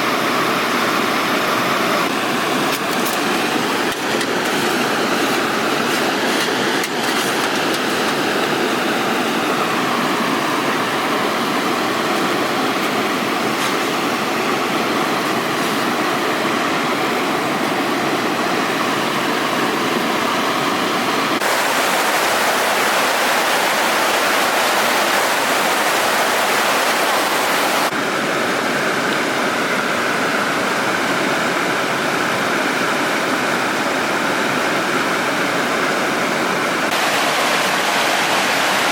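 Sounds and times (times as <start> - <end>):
river water roaring: 0.0 - 38.9.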